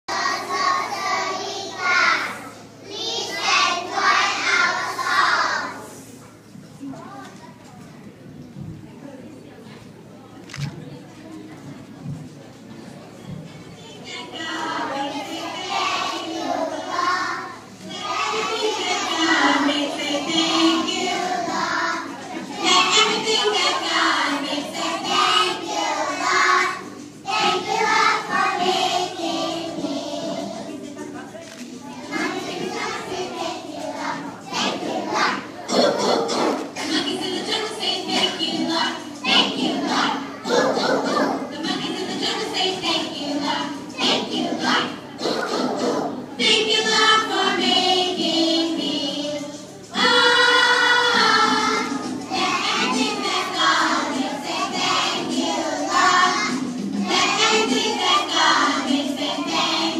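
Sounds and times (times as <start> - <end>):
children singing together: 0.1 - 6.1, 14.0 - 30.8, 31.9 - 59.9.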